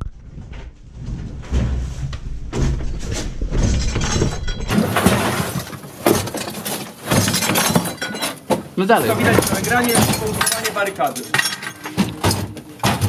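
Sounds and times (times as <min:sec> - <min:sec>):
door being broken open: 0:00.6 - 0:13.0.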